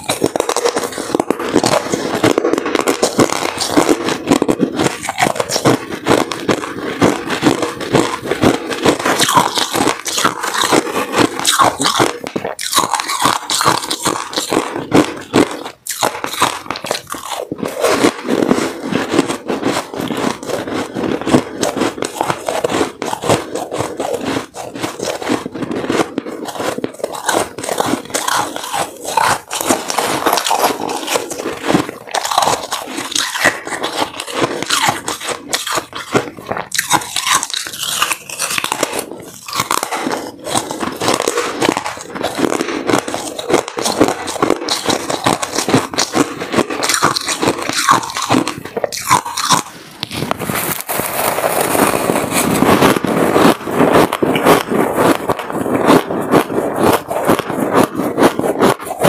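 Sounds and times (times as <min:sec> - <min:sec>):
ice crunching between teeth: 0:00.0 - 0:59.0.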